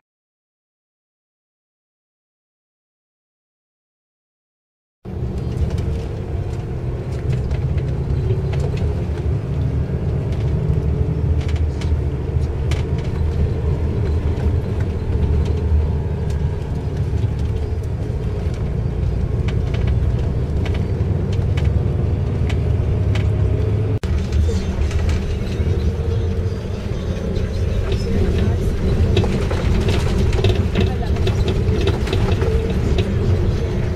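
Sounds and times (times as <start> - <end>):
bus engine and road rumble: 5.1 - 33.9
light rattles and clicks: 5.3 - 23.3, 24.0 - 33.9.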